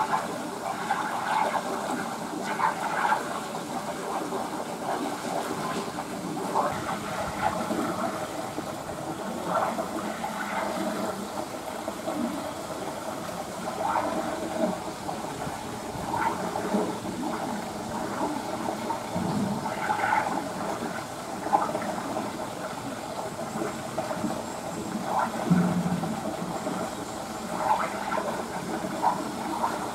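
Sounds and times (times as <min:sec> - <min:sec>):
running water rushing: 0:00.0 - 0:29.9.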